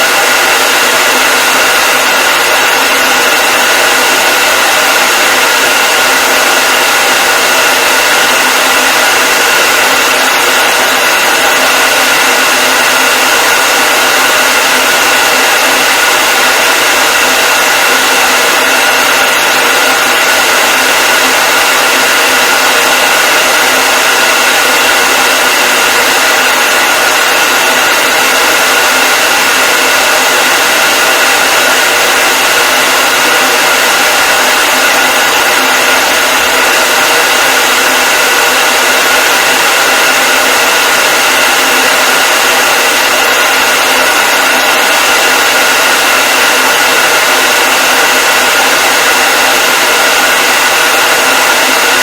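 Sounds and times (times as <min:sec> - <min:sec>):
hair dryer blowing: 0:00.0 - 0:52.0.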